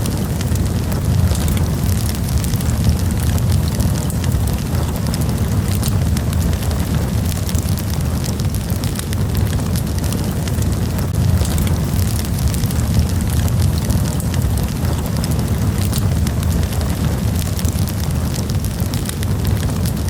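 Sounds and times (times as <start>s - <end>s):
campfire crackling and popping: 0.0s - 20.0s
low rumble of fire: 0.0s - 20.0s.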